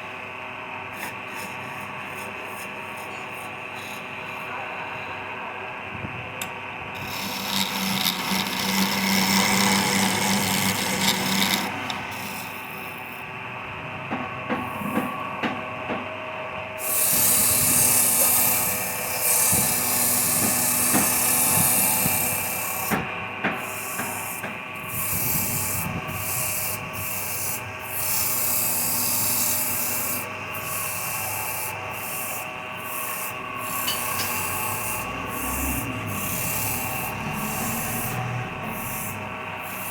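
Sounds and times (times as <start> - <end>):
lathe motor hum: 0.0 - 39.9
tool rasping on spinning wood: 0.9 - 5.1, 7.0 - 13.3, 16.8 - 39.9.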